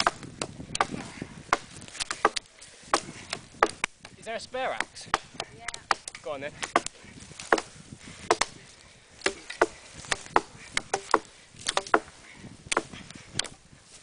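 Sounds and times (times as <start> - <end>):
axes chopping branches: 0.0 - 13.6.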